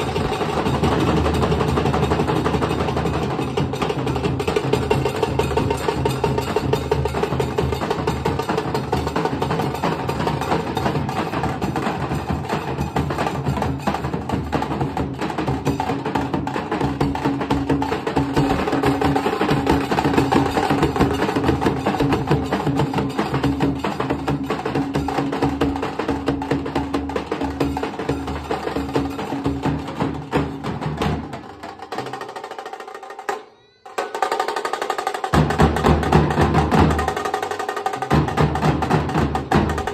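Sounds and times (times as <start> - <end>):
sharp drum clatter: 0.0 - 39.9.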